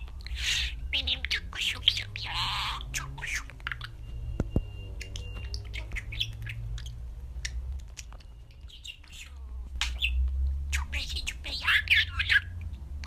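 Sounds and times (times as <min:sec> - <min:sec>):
budgerigar chirping: 0:00.0 - 0:04.2, 0:04.9 - 0:12.6.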